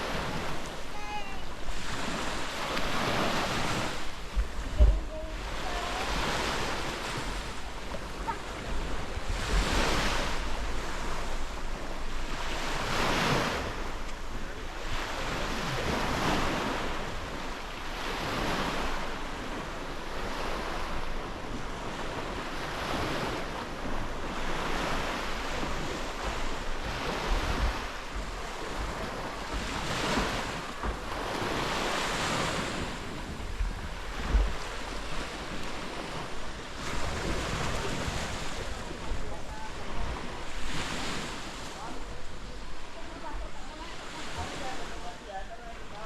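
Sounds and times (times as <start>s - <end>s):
wind buffeting microphone: 0.0s - 17.4s, 20.3s - 45.1s
surf washing up a beach: 0.0s - 46.0s.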